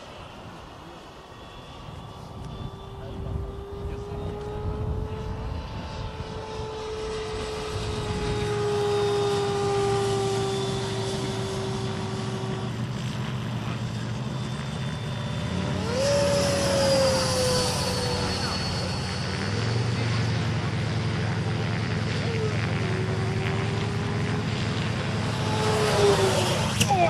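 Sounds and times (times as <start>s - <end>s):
model jet fan whining: 0.0s - 27.0s.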